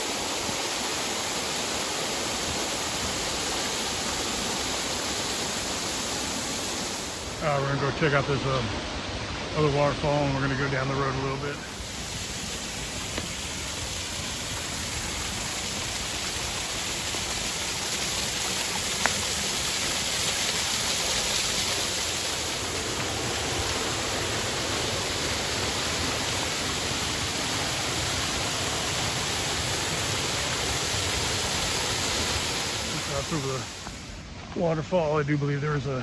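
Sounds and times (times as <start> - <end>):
waterfall rushing: 0.0 - 34.4.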